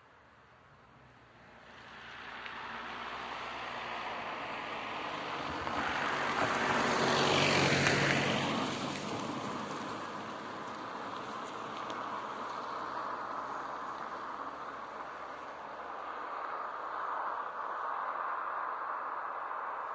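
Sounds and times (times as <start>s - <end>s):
car driving past: 1.3s - 19.9s.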